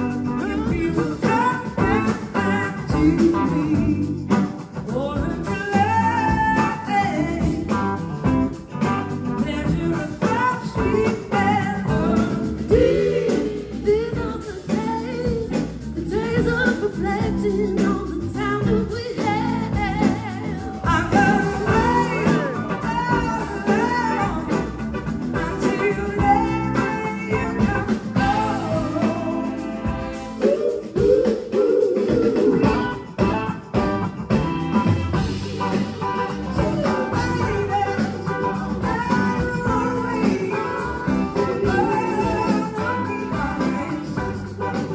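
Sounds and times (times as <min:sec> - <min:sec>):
lead vocal singing: 0:00.0 - 0:34.1, 0:34.9 - 0:44.9
blues-rock band playing: 0:00.0 - 0:44.9.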